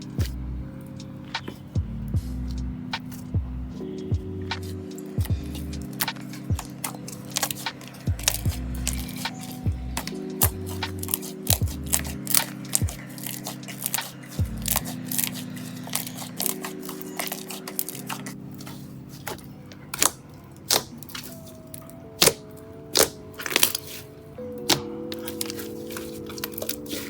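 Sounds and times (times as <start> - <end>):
soft background music: 0.0 - 27.0.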